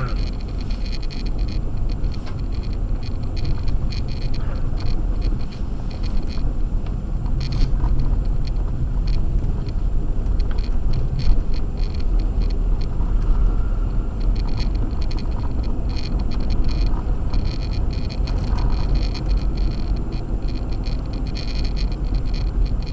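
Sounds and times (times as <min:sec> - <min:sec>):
tires and engine rumble: 0:00.0 - 0:22.9
tires crackling on snow: 0:00.0 - 0:22.9.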